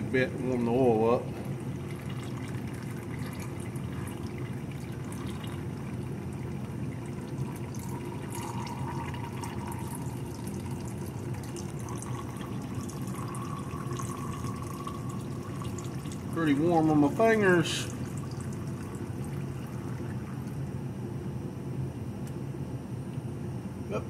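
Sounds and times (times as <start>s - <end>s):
oil stream pouring into a cup: 0.5s - 20.8s.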